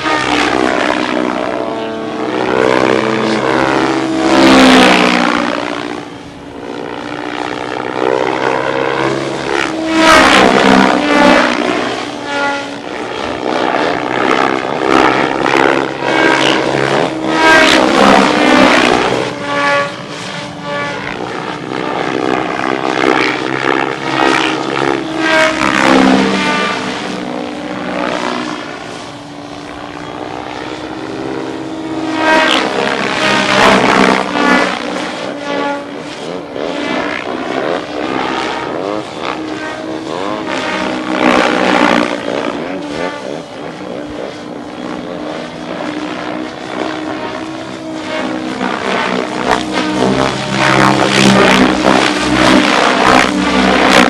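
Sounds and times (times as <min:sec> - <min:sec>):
rc helicopter rotor whine: 0:00.0 - 0:54.0.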